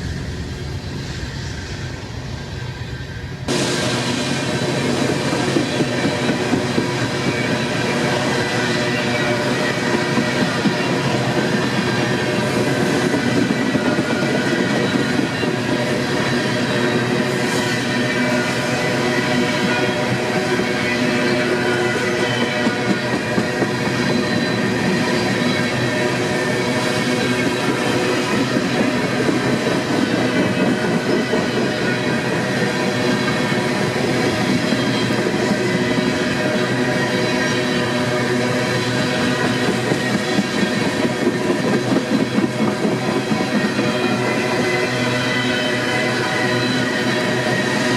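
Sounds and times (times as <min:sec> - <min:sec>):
freight train rolling by: 0:00.0 - 0:47.9.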